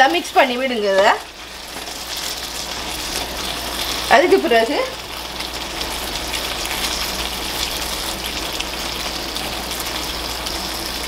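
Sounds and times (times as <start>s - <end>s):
curry bubbling and sizzling in pan: 0.0s - 11.0s.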